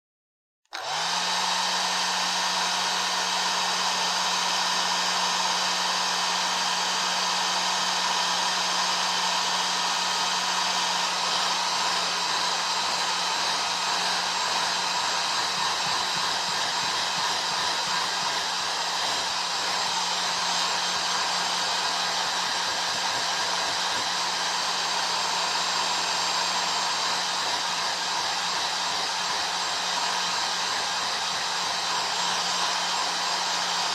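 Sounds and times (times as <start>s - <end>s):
hair dryer running: 0.7s - 33.9s.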